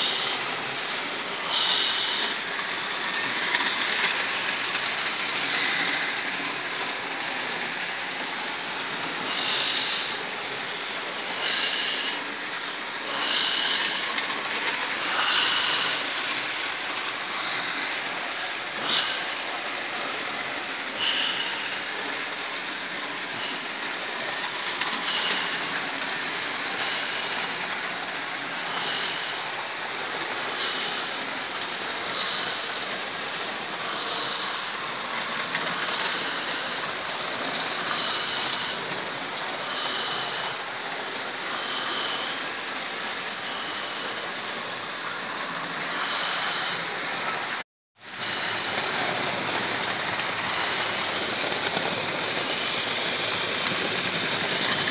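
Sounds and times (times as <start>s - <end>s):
model train motors whirring: 0.0s - 54.9s.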